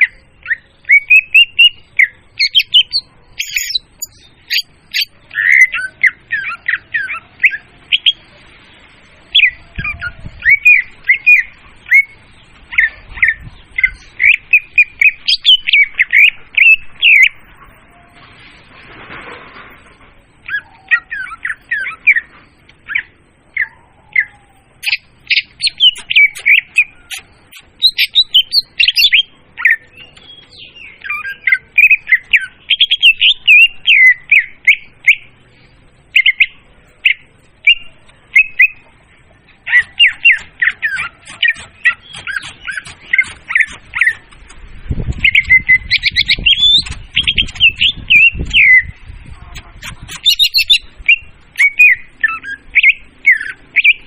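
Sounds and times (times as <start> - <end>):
recorded bird song chirps: 0.0 - 54.0.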